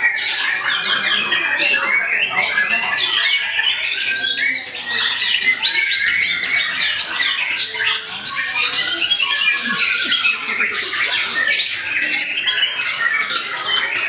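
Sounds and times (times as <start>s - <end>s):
many songbirds singing: 0.0s - 14.0s.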